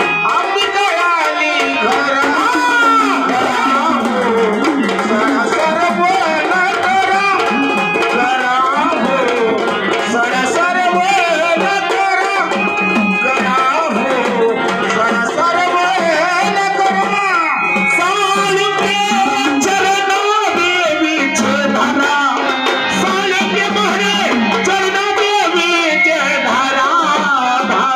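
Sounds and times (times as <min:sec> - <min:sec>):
hand drum playing: 0:00.0 - 0:27.9
pitched melody instruments: 0:00.0 - 0:27.9.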